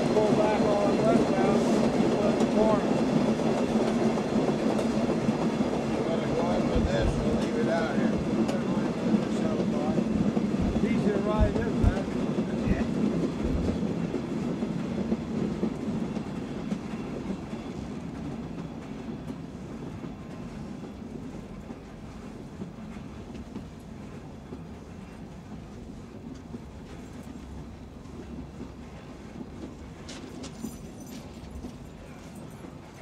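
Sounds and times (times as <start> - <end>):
train wheels clacking over rail joints: 0.0 - 33.0.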